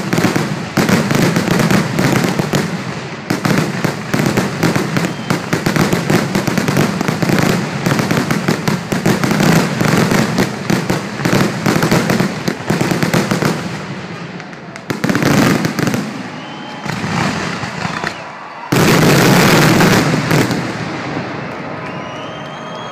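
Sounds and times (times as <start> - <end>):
fireworks bursting and crackling: 0.0 - 22.9.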